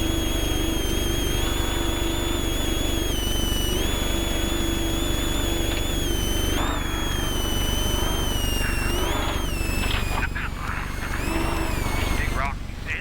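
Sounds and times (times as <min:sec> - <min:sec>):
high whine: 0:00.0 - 0:12.5
truck engine rumble: 0:00.0 - 0:13.0.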